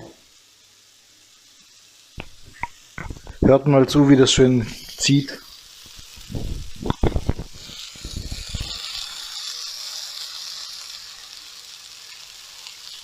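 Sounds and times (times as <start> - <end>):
skewers frying and sizzling: 0.0 - 13.0.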